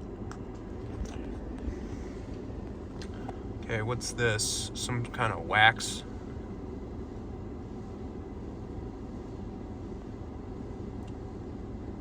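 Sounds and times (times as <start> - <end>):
car engine idling: 0.0 - 12.0
car wash machinery rumbling: 0.0 - 12.0.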